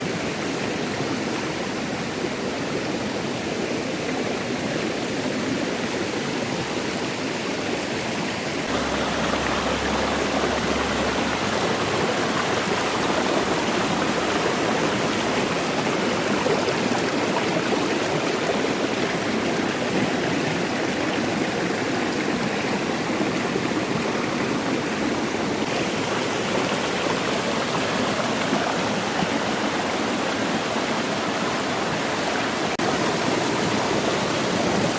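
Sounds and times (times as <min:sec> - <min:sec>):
stream rushing water: 0:00.0 - 0:34.9.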